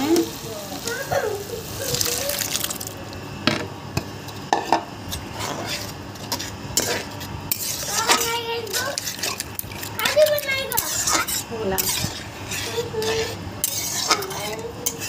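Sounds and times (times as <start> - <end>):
peas sizzling in oil: 0.0 - 3.2, 5.3 - 15.0.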